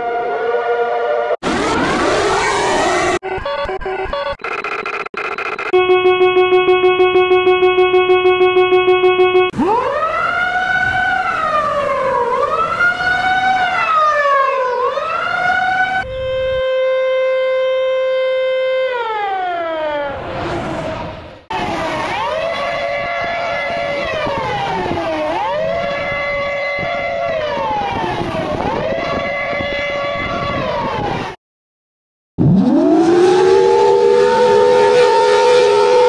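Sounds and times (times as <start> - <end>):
second siren wailing: 0.0 - 4.4, 5.8 - 31.4, 32.4 - 36.0
sped-up siren wailing: 0.0 - 31.4, 32.4 - 36.0.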